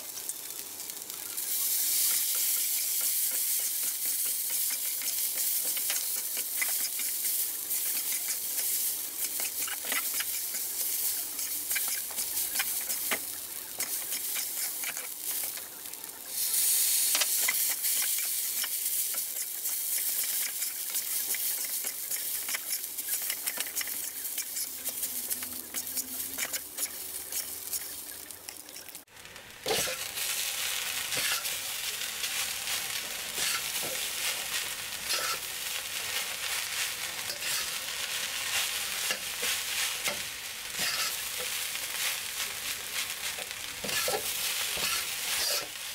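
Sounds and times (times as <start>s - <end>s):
rice sizzling in a wok: 0.0s - 45.9s
spatula scraping and tossing: 2.0s - 29.0s, 29.7s - 45.9s.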